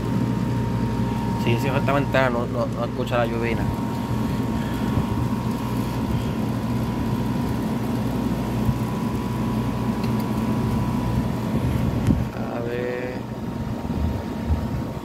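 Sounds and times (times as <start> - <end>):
air conditioner humming: 0.0 - 15.0
thin steady whine: 0.0 - 15.0.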